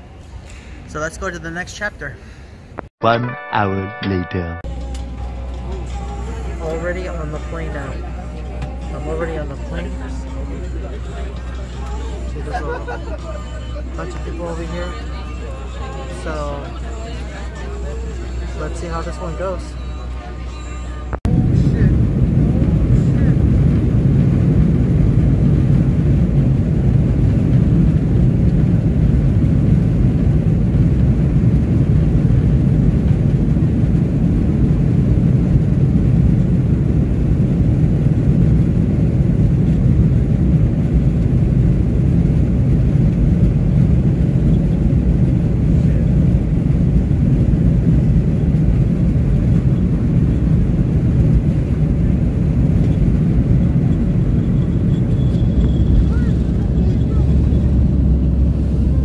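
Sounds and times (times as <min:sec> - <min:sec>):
airliner cabin rumble: 0:04.7 - 0:59.0.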